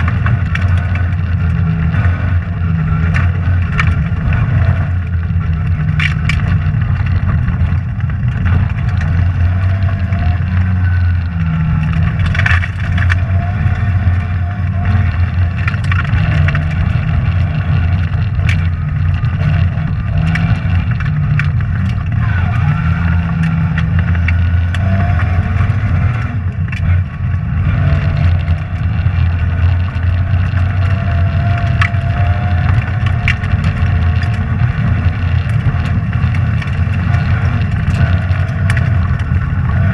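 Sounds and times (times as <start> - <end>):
gravel striking car: 0.0 - 39.9
rally car engine revving: 0.0 - 39.9.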